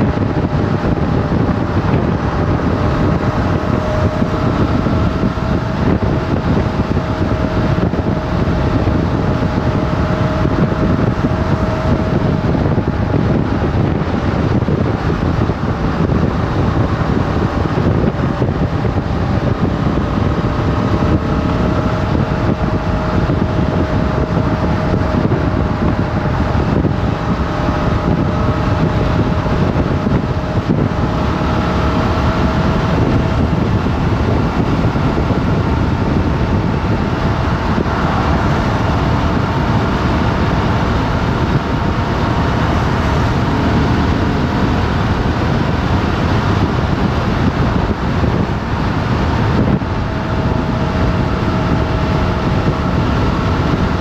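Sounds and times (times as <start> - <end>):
motorcycle engine cruising: 0.0 - 54.0
wind rush on microphone: 0.0 - 54.0.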